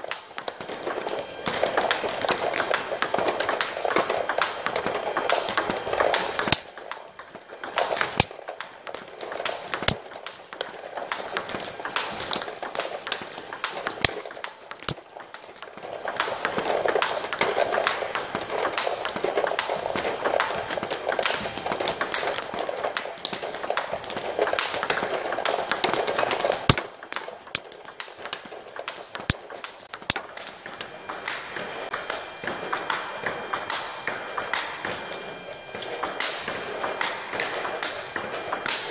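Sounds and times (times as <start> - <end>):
table tennis ball clicks: 0.0 - 35.0, 35.8 - 38.9.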